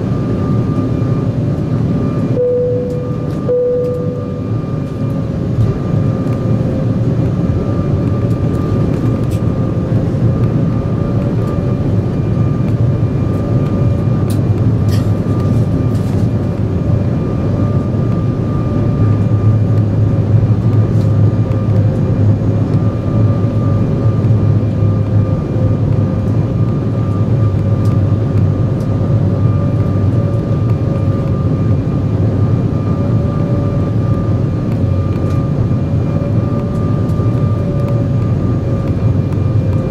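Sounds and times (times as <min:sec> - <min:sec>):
jet engine whine: 0:00.0 - 0:39.9
low cabin rumble: 0:00.0 - 0:39.9.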